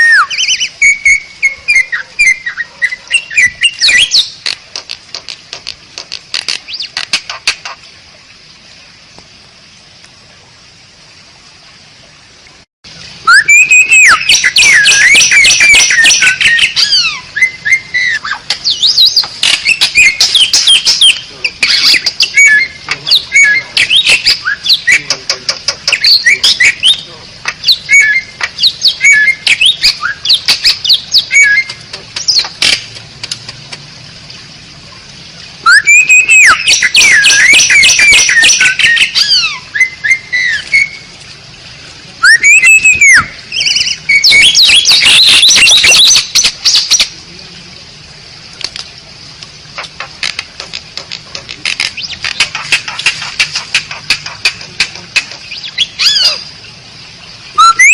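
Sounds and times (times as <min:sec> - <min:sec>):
starling clicking chatter and chirps: 0:00.0 - 0:07.9, 0:13.3 - 0:33.9, 0:35.6 - 0:41.0, 0:42.2 - 0:47.2, 0:48.5 - 0:56.5.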